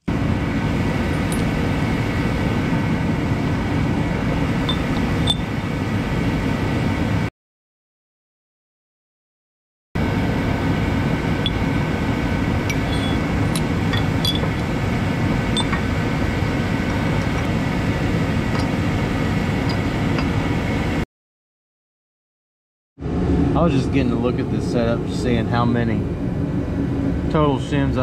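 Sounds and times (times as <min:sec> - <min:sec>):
fan-like mechanical hum: 0:00.0 - 0:07.3, 0:10.0 - 0:21.0, 0:23.0 - 0:28.0.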